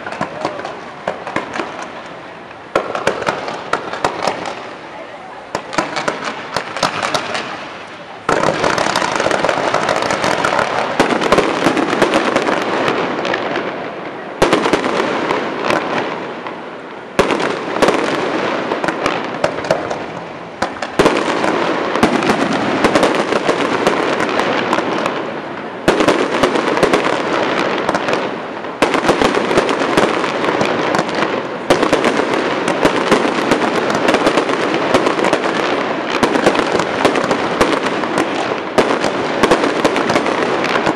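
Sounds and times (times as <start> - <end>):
fireworks crackling and popping: 0.0 - 40.9.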